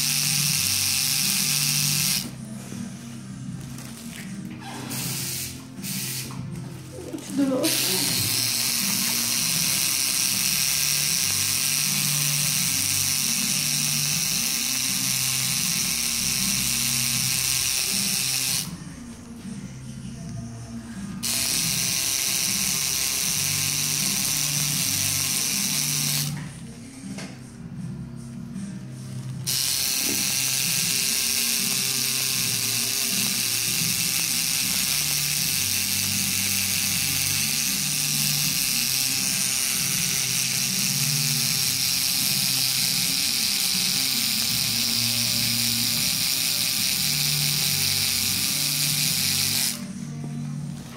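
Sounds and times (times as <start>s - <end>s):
tattoo machine buzzing: 0.0s - 2.4s, 3.7s - 6.5s, 7.3s - 18.8s, 21.1s - 26.4s, 29.2s - 49.9s.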